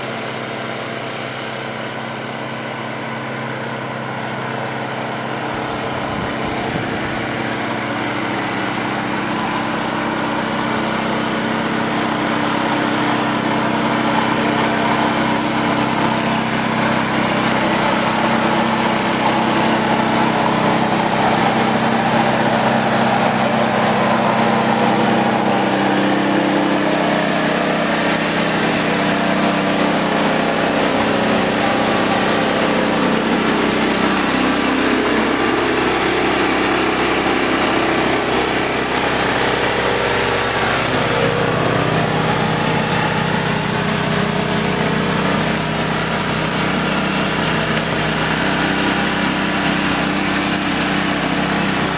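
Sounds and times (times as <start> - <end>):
snowblower engine running: 0.0 - 51.9.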